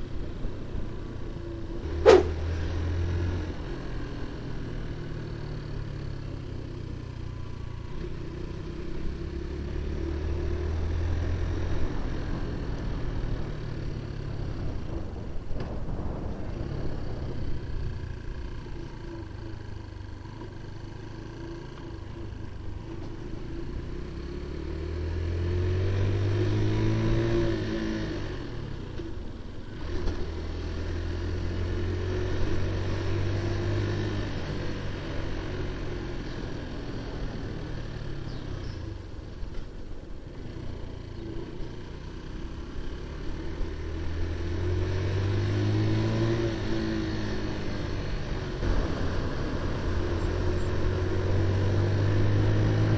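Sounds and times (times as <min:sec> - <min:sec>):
motorcycle engine revving: 0:00.0 - 0:39.6, 0:40.2 - 0:52.9.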